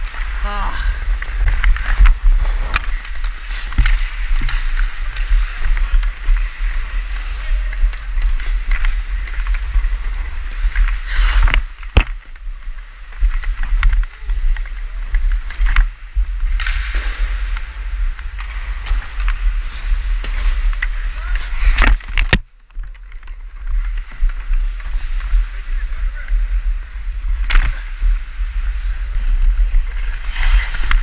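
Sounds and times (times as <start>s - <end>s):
skate blades scraping on ice: 1.0s - 21.8s, 23.4s - 31.0s.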